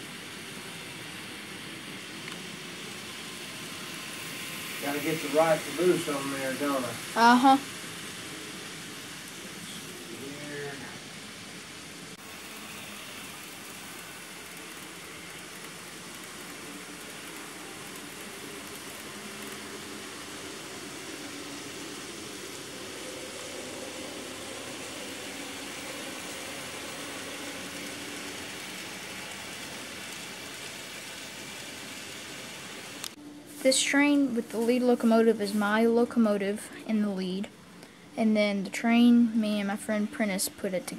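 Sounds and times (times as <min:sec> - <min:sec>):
model train wheels rolling on track: 0:00.0 - 0:37.5
faint motor hum: 0:00.0 - 0:40.9.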